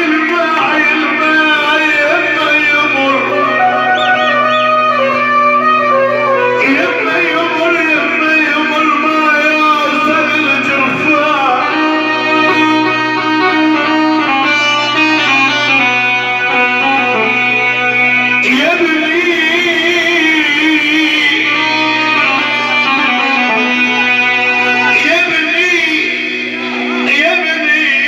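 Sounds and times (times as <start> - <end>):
plucked string instrument: 0.0 - 28.0
live band instrumental music: 2.0 - 28.0.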